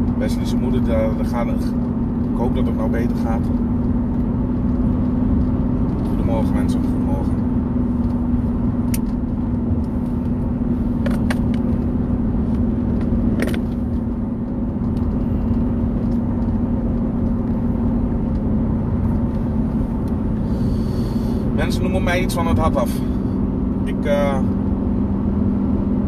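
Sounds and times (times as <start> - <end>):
car engine and road rumble: 0.0 - 26.0
low hum: 0.0 - 26.0.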